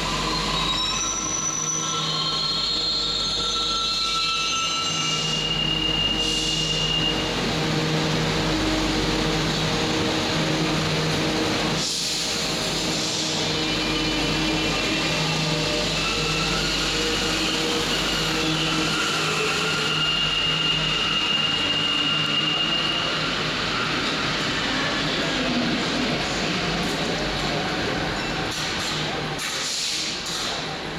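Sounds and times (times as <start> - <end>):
metro train rumble: 0.0 - 30.9.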